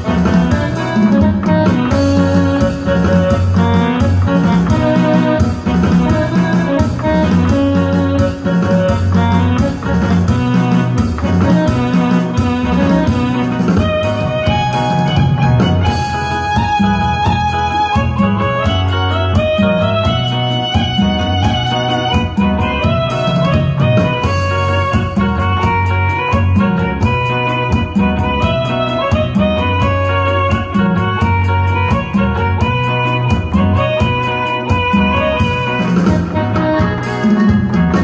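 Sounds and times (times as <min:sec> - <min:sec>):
electronic keyboard music: 0:00.0 - 0:38.0.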